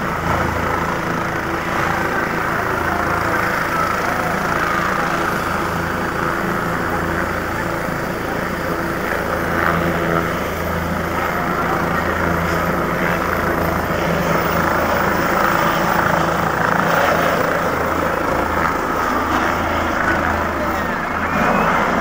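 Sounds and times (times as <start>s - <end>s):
helicopter rotor beat: 0.0s - 22.0s
helicopter turbine whine: 0.0s - 22.0s.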